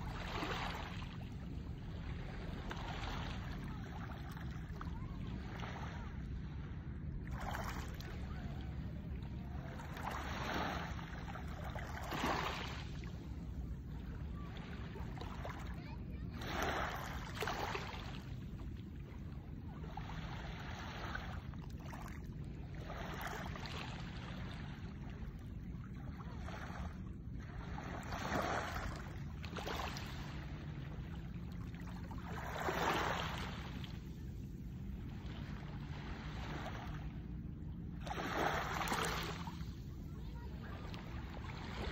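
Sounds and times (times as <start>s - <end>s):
steady low rumble: 0.0s - 16.4s, 17.1s - 32.6s, 33.3s - 41.9s
small waves washing on beach: 0.0s - 41.9s.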